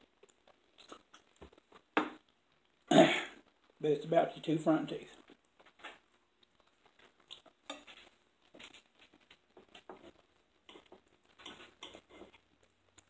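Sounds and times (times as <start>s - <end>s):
soft chewing: 0.0s - 3.8s, 5.0s - 13.0s.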